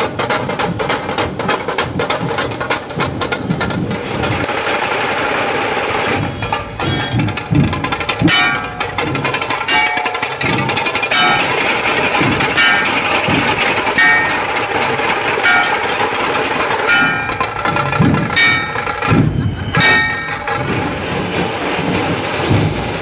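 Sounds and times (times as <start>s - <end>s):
crowd noise: 0.0s - 23.0s
drums beating fast rhythm: 0.0s - 23.0s.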